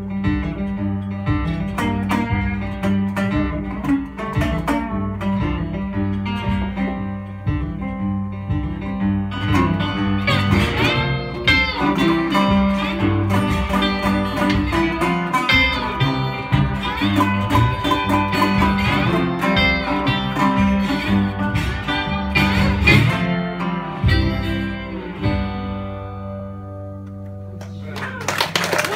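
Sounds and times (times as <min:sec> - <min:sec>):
blues guitars playing: 0:00.0 - 0:28.9.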